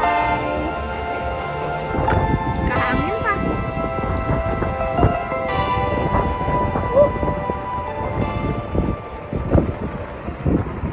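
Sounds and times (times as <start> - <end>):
background music with held notes: 0.0 - 10.9
low constant rumbling: 0.0 - 10.9.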